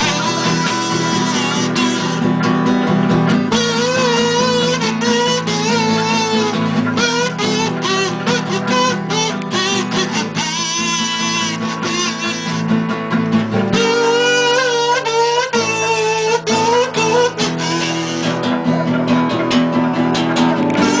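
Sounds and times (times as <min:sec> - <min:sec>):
strummed guitar chords: 0:00.0 - 0:21.0.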